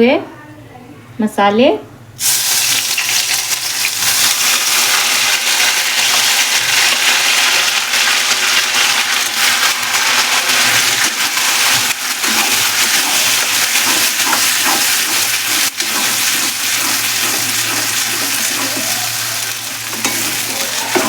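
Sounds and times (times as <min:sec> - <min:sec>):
paste sizzling in hot oil: 0:02.2 - 0:21.0.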